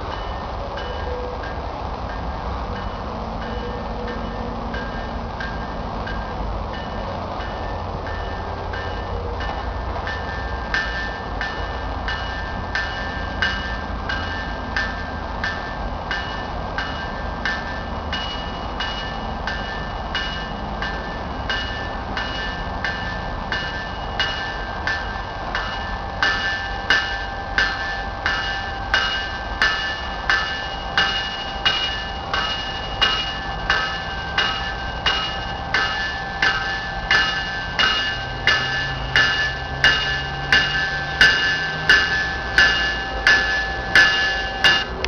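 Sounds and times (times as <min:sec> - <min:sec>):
train low rumble: 0:00.0 - 0:45.0
train warning bell ringing: 0:00.0 - 0:45.0.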